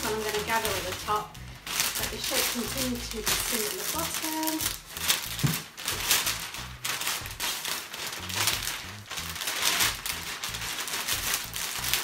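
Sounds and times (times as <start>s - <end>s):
cellophane crinkling: 0.0s - 12.0s.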